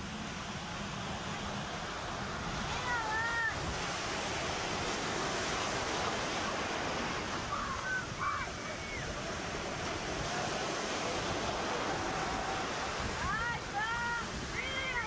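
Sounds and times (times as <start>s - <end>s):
ocean surf washing on shore: 0.0s - 15.0s
wind buffeting microphone: 0.0s - 15.0s.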